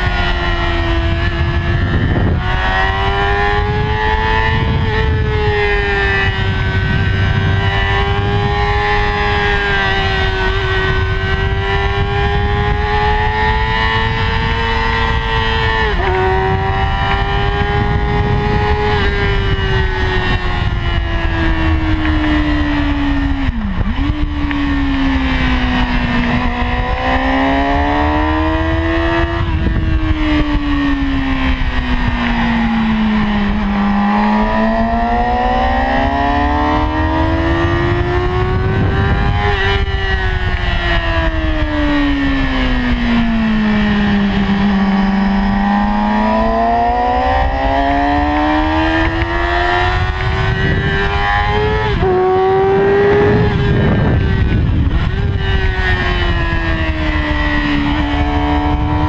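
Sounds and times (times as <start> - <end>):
motorcycle engine revving high: 0.0 - 59.0
wind rush on microphone: 0.0 - 59.0.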